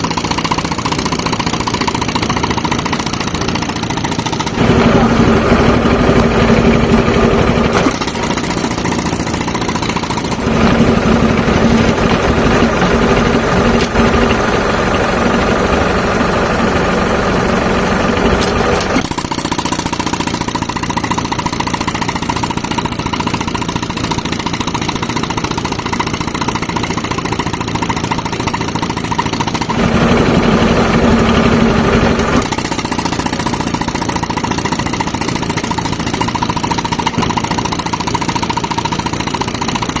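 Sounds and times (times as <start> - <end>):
tractor engine running compressor: 0.0 - 40.0.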